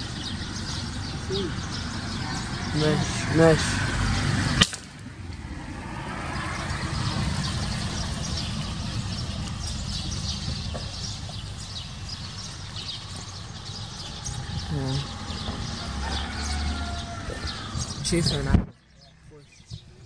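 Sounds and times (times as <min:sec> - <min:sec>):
small birds chirping: 0:00.0 - 0:04.3, 0:06.3 - 0:20.0
street traffic rumble: 0:00.0 - 0:20.0.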